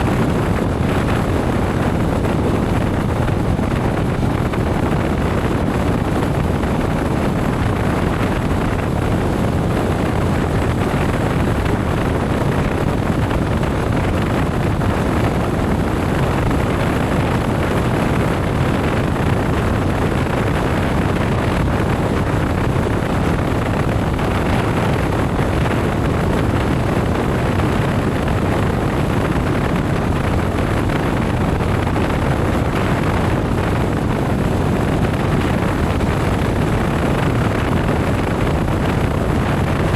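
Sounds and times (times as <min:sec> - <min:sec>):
road noise: 0:00.0 - 0:39.9
wind on microphone: 0:00.0 - 0:39.9.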